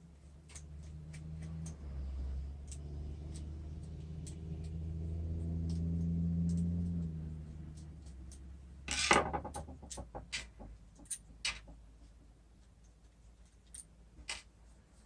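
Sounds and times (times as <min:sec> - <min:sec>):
small metal parts clicking: 0:00.1 - 0:04.9, 0:05.6 - 0:11.7, 0:12.6 - 0:14.5.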